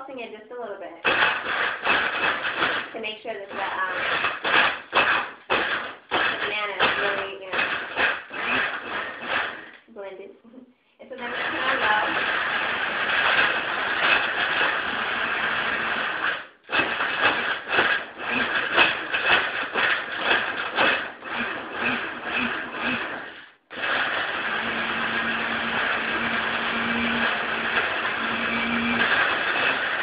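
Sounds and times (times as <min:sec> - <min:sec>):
blender crushing ice: 0:01.0 - 0:09.9, 0:11.2 - 0:30.0.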